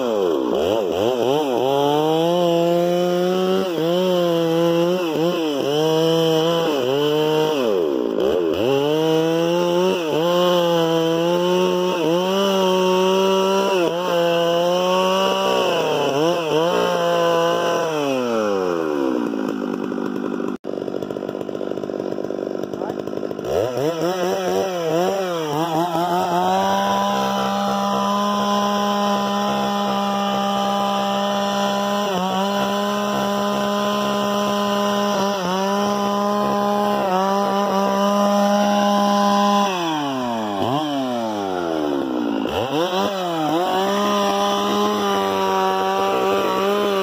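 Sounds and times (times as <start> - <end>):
chainsaw engine revving: 0.0 - 47.0.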